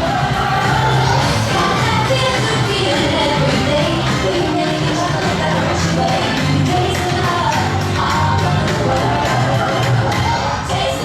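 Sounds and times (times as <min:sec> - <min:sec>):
upbeat song over sound system: 0:00.0 - 0:11.0.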